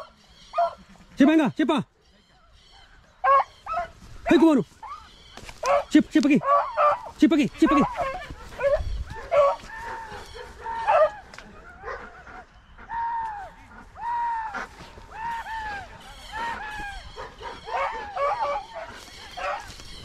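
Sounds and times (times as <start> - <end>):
hounds baying: 0.0 - 1.2, 2.9 - 20.0.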